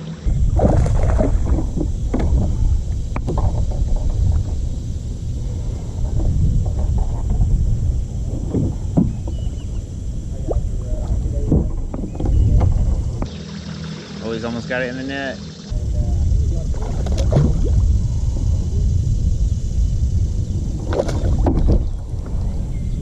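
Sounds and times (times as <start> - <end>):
boat engine rumble: 0.0 - 23.0.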